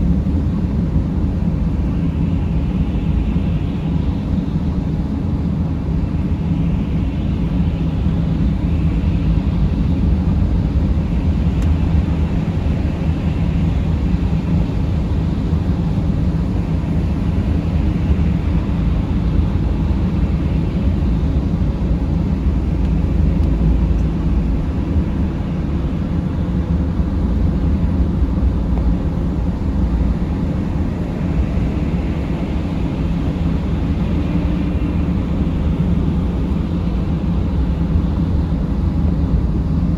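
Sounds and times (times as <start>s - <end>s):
van engine and road rumble: 0.0s - 39.9s.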